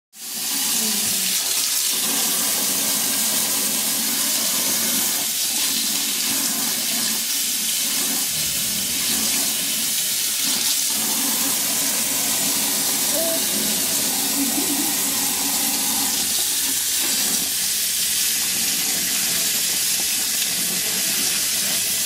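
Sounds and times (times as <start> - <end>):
faucet water splashing into basin: 0.2 - 22.0.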